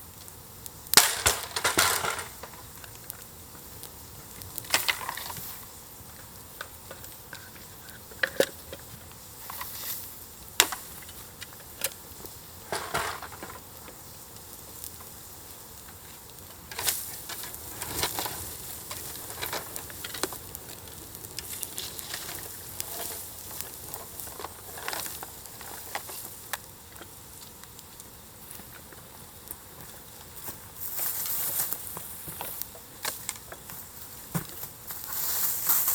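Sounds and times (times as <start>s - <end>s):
faint steady hiss: 0.0s - 35.9s
wood fire crackling: 0.0s - 35.9s.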